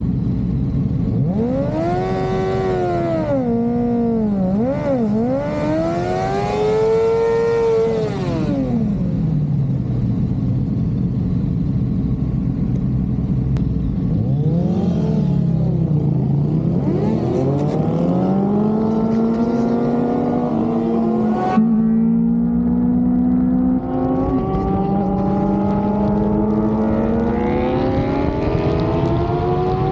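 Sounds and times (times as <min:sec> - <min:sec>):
motorcycle engine revving: 0:00.9 - 0:10.9, 0:13.4 - 0:29.9.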